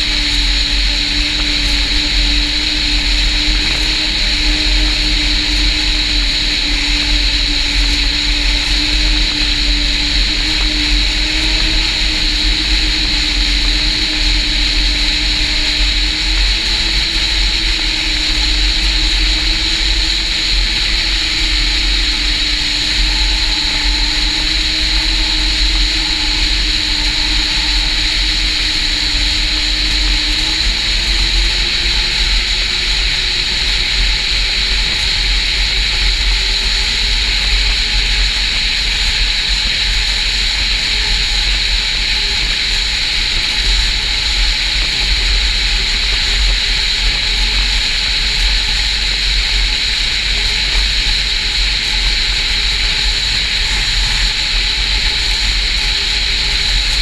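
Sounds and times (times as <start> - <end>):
high-pitched whine: 0.0 - 57.0
snowmobile engine running: 0.0 - 57.0.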